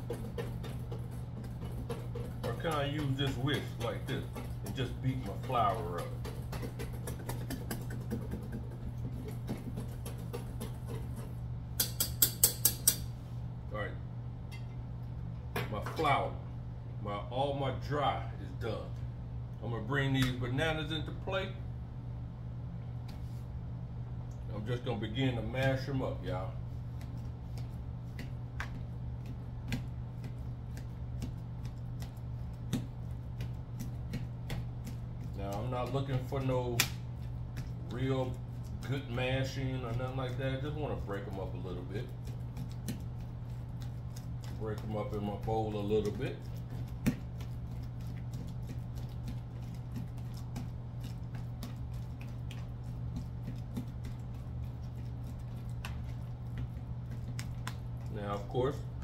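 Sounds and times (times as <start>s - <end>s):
bananas squishing by hand: 0.0s - 11.8s, 22.9s - 59.0s
steady low hum: 0.0s - 59.0s.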